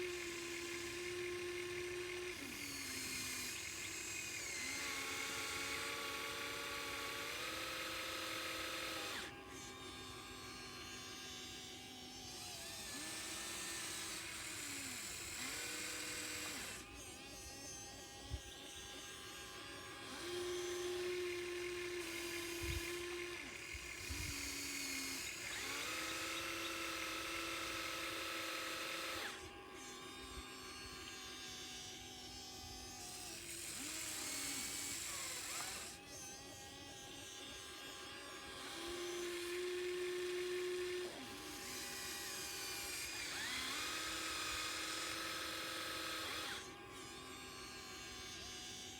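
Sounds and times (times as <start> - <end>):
small electric motors whining: 0.0 - 48.9.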